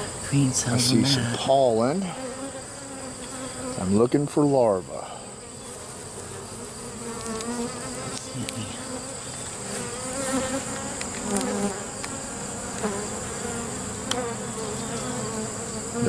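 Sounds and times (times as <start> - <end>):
honey bees buzzing: 0.0 - 16.0.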